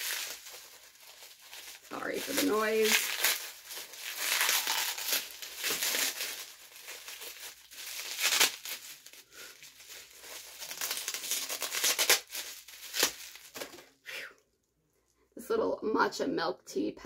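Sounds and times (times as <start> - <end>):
packaging crinkling and tearing: 0.0 - 13.9.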